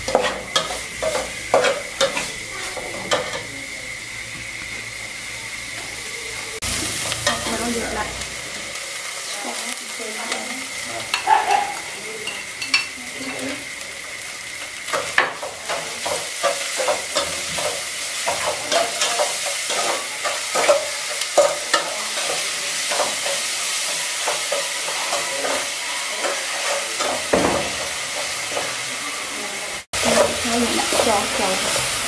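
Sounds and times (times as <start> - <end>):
food sizzling in a pot: 0.0 - 32.0.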